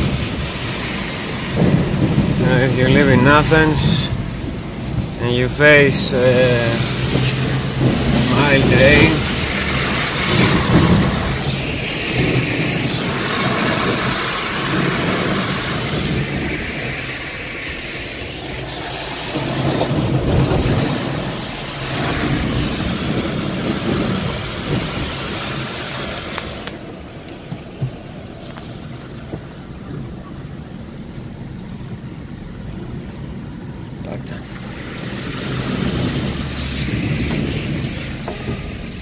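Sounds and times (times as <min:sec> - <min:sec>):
car road and rain noise: 0:00.0 - 0:39.0
low rumbling: 0:00.0 - 0:39.0.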